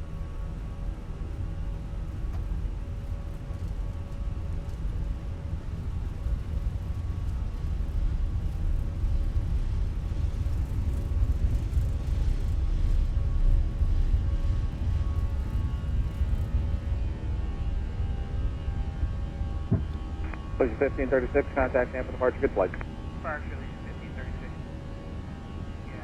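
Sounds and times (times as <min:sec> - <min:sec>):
jet engines low rumble: 0:00.0 - 0:26.0.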